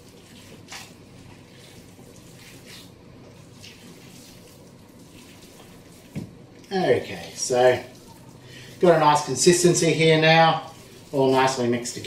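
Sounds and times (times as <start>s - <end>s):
faint wet squelching: 0.0s - 12.0s.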